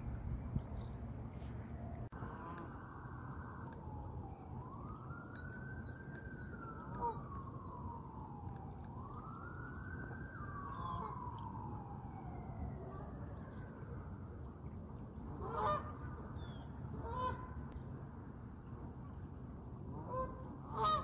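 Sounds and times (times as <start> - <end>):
faint siren wailing: 0.6 - 21.0.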